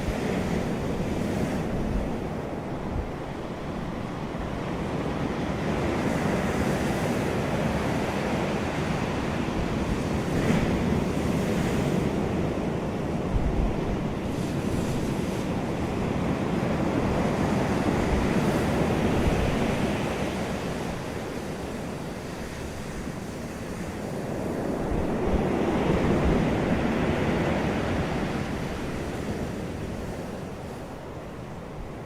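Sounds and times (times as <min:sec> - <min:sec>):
wind: 0:00.0 - 0:32.0
wind buffeting microphone: 0:00.0 - 0:32.0.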